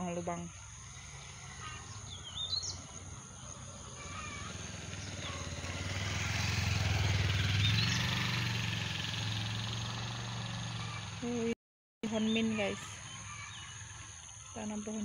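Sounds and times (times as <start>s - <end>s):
engine humming low: 0.0s - 15.0s.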